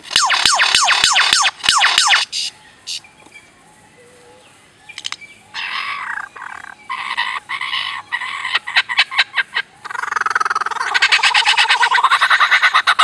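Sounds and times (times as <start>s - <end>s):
bird mimicking laser sounds: 0.0s - 3.0s, 5.6s - 13.0s.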